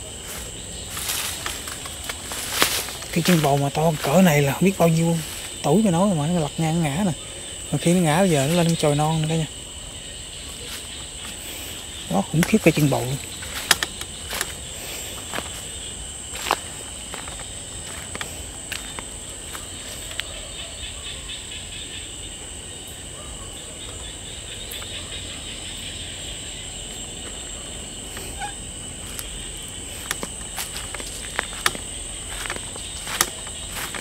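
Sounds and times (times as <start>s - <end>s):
footsteps rustling through undergrowth: 0.0s - 20.6s, 27.1s - 34.0s
crickets and insects trilling: 0.0s - 34.0s.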